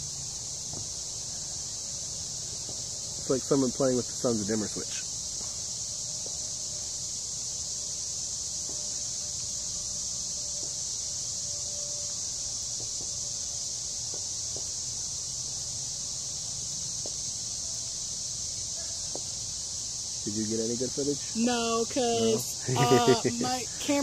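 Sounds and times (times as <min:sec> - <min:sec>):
insects chorus shrill drone: 0:00.0 - 0:24.0.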